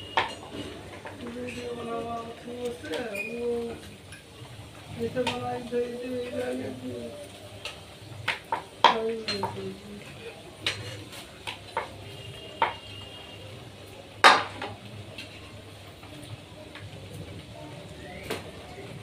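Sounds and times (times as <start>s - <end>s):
ladle stirring in frying pan: 0.0s - 16.5s.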